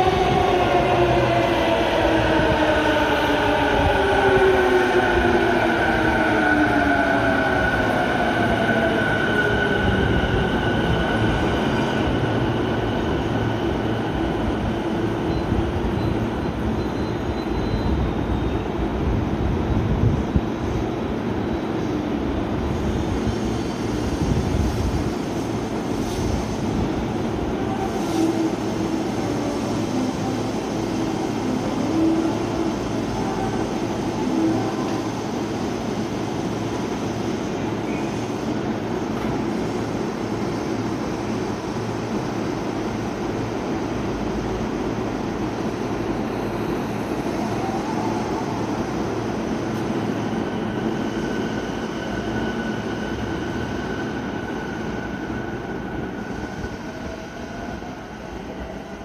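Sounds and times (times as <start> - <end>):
electric train rumble and hum: 0.0 - 59.0.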